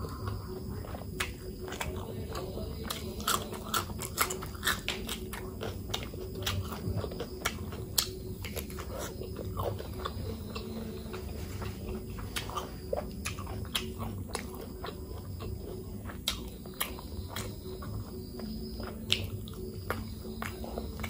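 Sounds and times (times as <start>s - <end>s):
person chewing and biting: 0.3s - 10.7s, 11.6s - 21.0s.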